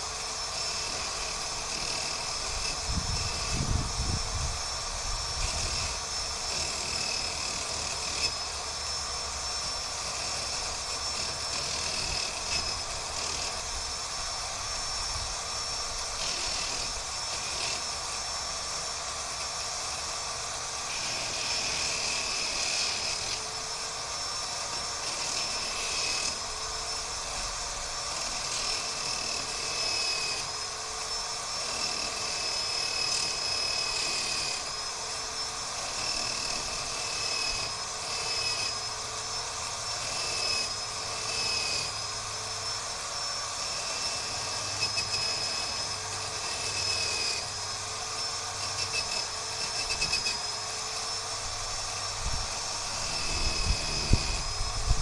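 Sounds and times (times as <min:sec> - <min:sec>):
drill grinding steel: 0:00.0 - 0:55.0.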